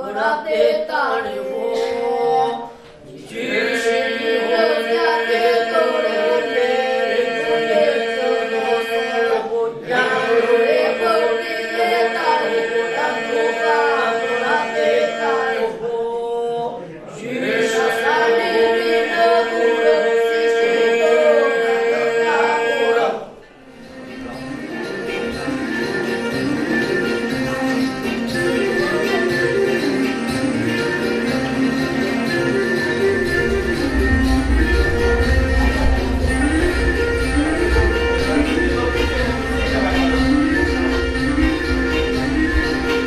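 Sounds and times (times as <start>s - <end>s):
boys' group singing polyphonic song: 0.0s - 23.5s, 24.2s - 43.0s.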